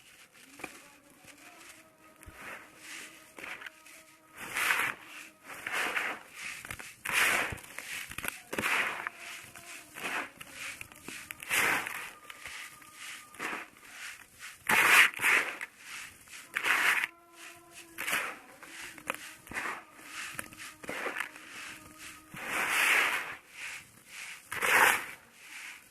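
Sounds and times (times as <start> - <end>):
sand bowl crunching and crumbling: 0.0 - 25.9.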